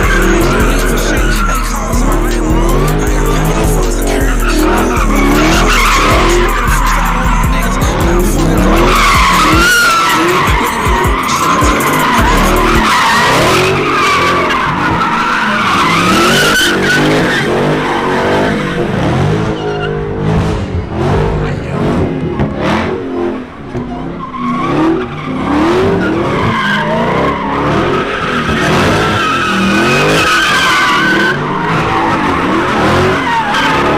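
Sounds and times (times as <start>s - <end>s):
car engine revving: 0.0s - 33.9s
tires squealing: 0.0s - 33.9s.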